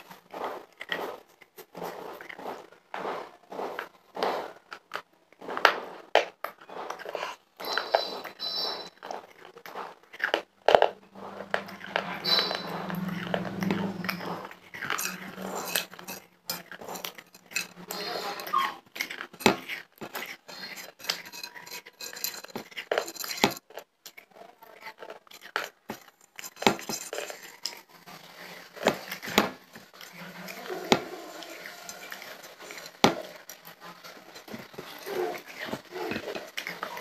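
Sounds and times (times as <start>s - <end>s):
fingers scraping crumbs on plate: 0.0s - 23.9s, 24.8s - 37.0s
soft chewing: 0.0s - 37.0s.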